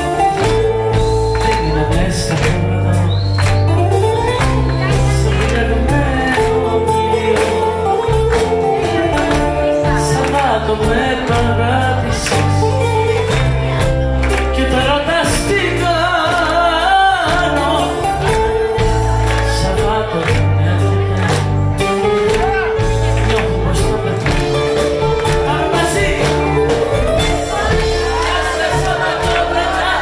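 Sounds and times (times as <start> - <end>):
audience clapping along: 0.0 - 30.0
live band playing popular music: 0.0 - 30.0.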